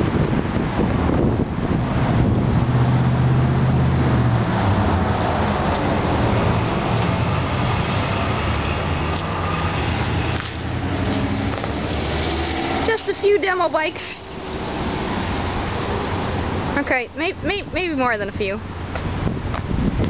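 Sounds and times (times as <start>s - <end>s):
road traffic noise: 0.0s - 20.0s
vehicle engine running: 0.0s - 20.0s.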